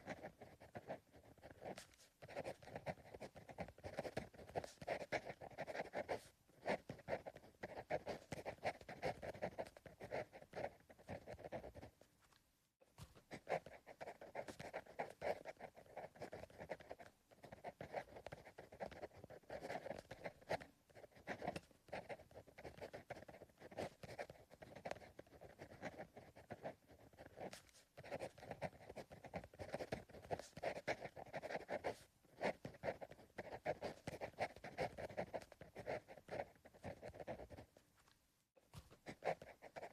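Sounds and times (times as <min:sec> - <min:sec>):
pencil scratching on paper: 0:00.0 - 0:37.8, 0:38.6 - 0:39.9.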